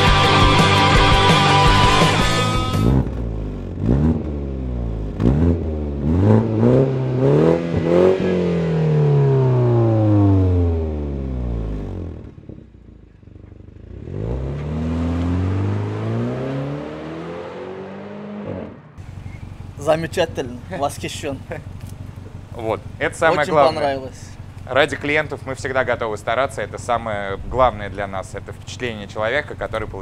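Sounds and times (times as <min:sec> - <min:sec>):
car accelerating: 0:00.0 - 0:30.0
car engine revving: 0:00.0 - 0:30.0.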